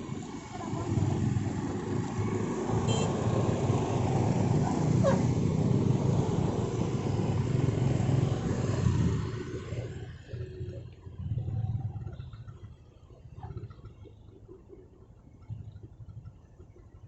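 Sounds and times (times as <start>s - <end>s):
road traffic rumble: 0.0s - 16.3s.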